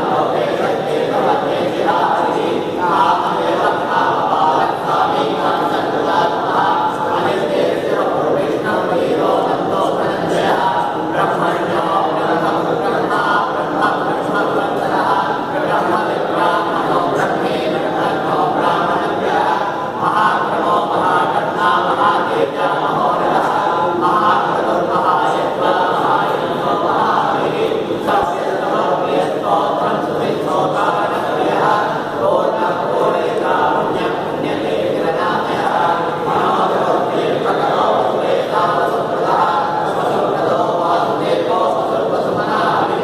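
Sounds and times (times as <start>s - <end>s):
men chanting in unison: 0.0s - 43.0s.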